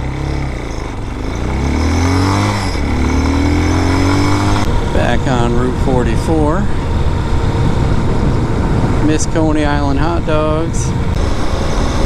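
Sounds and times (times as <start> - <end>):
dirt bike engine accelerating: 0.0 - 12.0.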